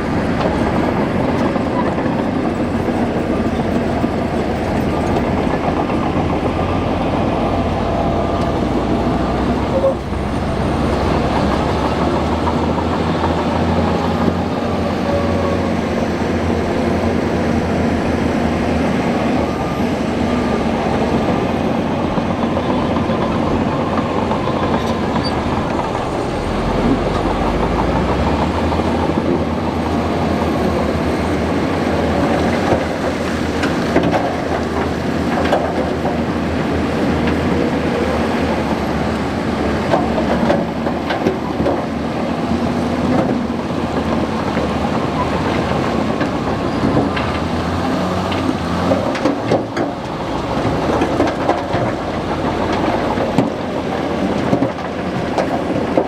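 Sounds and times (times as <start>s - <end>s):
bulldozer diesel engine: 0.0s - 56.0s
steel tracks clanking: 0.0s - 56.0s.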